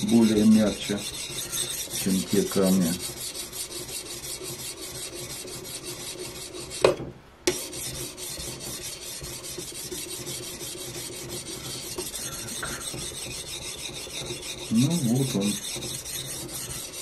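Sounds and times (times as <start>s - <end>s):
sharpening stone scraping steel: 0.0s - 6.8s, 7.5s - 17.0s.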